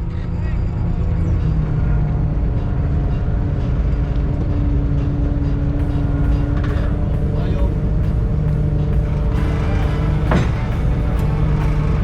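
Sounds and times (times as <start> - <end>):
boat engine rumbling: 0.0 - 12.0
hydraulic net roller humming: 0.0 - 12.0.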